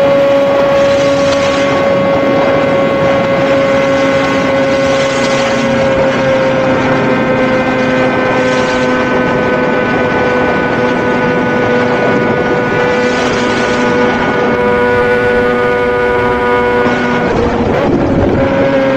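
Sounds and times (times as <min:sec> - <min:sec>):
motorcycle engine at high revs: 0:00.0 - 0:18.9
wind rushing: 0:00.0 - 0:18.9.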